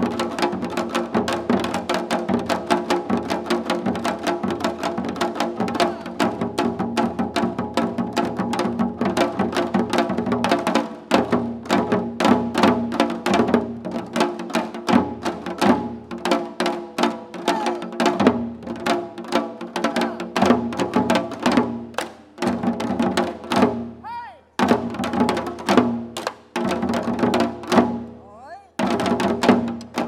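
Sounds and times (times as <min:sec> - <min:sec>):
fast drum strikes: 0:00.0 - 0:30.0.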